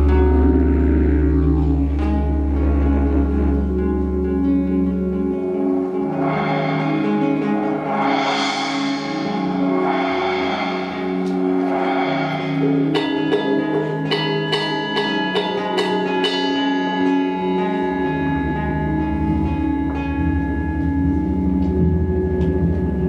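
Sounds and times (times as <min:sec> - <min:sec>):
didgeridoo drone: 0:00.0 - 0:23.0
struck metallic notes ringing: 0:00.0 - 0:23.0.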